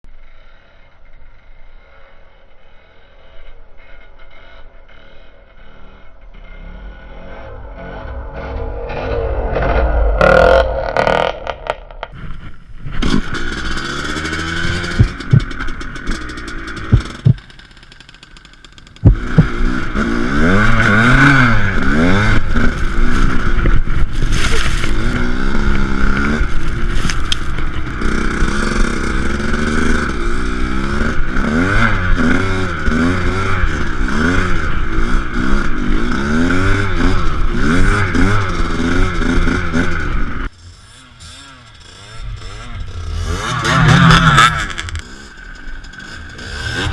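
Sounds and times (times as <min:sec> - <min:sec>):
dirt bike engine revving: 0:00.3 - 0:12.2, 0:12.9 - 0:46.9.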